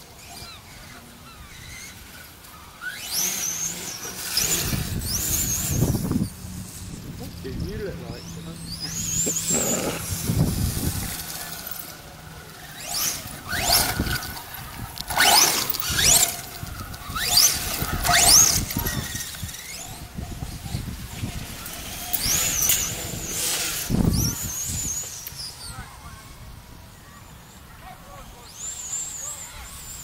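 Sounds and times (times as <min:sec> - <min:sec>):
electric motor whining: 0:00.3 - 0:25.6.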